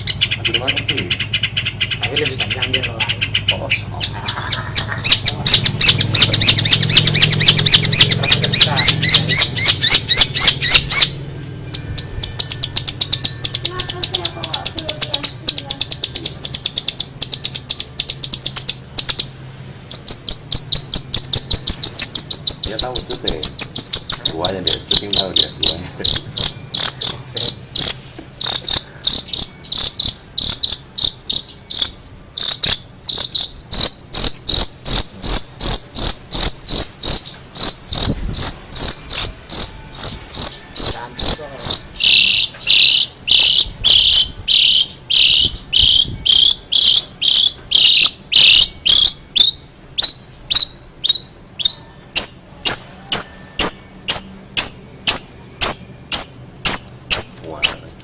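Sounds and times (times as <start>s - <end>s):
shrike calling sharp high notes: 0.0s - 57.8s.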